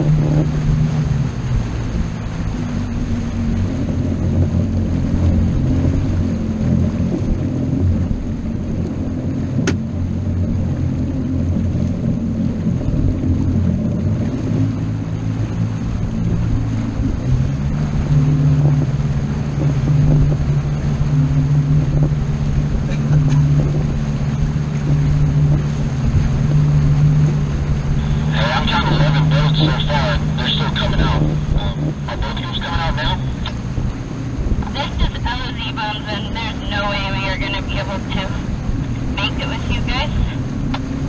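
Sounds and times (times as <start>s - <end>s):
motorboat engine humming: 0.0s - 41.0s.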